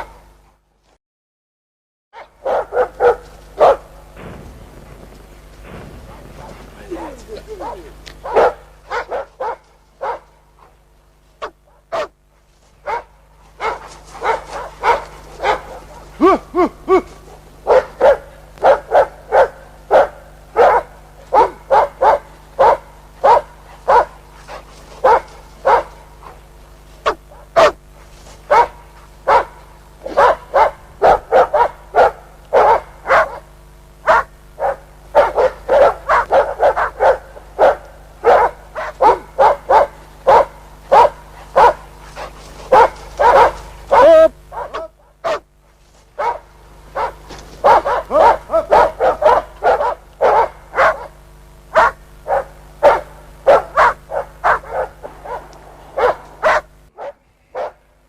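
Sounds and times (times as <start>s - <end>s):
dog barking: 0.0s - 0.2s, 2.2s - 4.0s, 6.1s - 10.8s, 11.4s - 12.2s, 12.8s - 17.0s, 17.6s - 45.5s, 46.2s - 57.9s.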